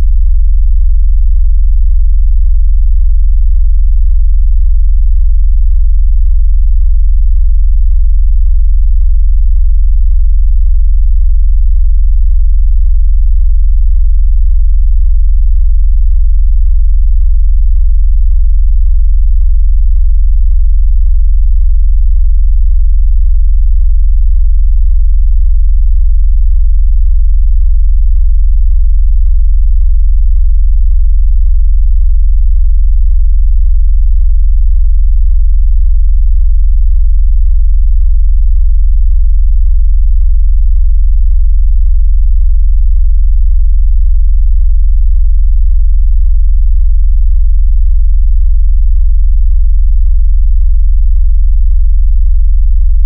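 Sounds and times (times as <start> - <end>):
deep electronic bass tone: 0.0 - 45.5.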